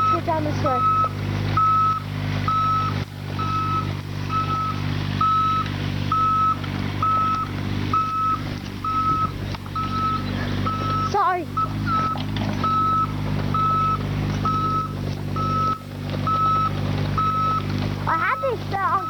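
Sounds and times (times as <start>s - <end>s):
diesel engine running: 0.0s - 19.0s
excavator travel alarm beeping: 0.0s - 19.0s.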